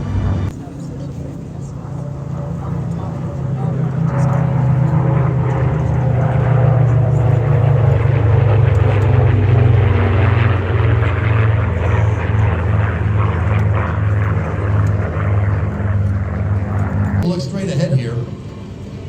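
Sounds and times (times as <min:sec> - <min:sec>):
propeller planes droning past: 0:00.0 - 0:19.0.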